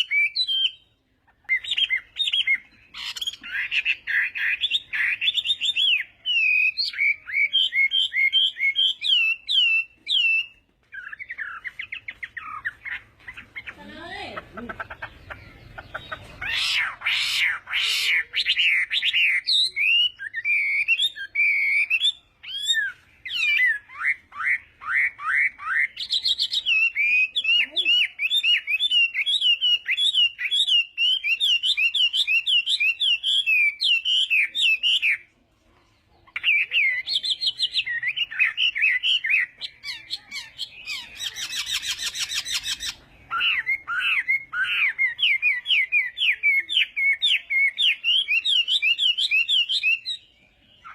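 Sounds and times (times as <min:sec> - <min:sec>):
bird singing whistled notes: 0:00.0 - 0:13.0, 0:15.2 - 0:35.2, 0:36.3 - 0:50.9.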